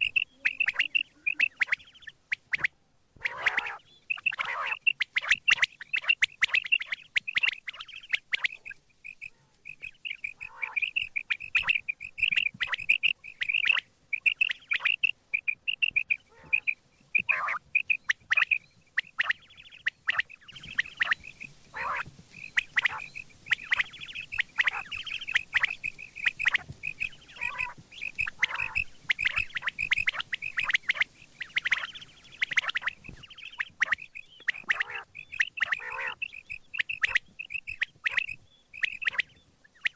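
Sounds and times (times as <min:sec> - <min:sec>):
quail chirping calls: 0:00.0 - 0:39.9.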